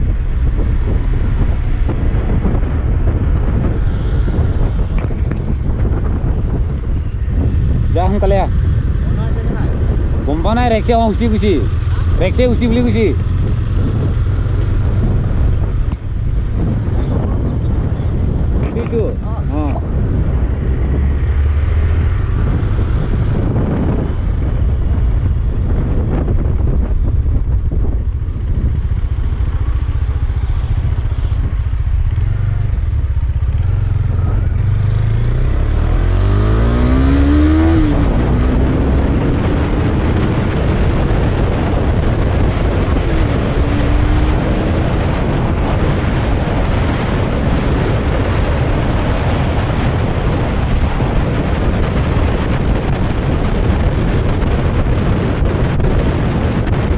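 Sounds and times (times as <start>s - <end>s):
motorcycle engine revving: 0.0s - 56.9s
wind rumble on microphone: 0.0s - 56.9s.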